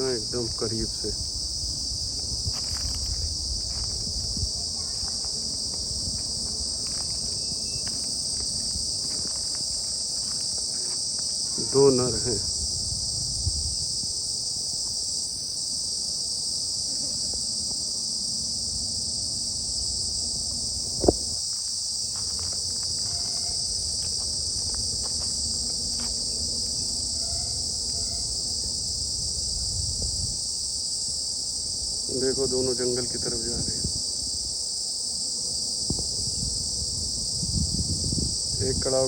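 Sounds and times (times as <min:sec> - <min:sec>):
shrill insect chorus: 0:00.0 - 0:39.0.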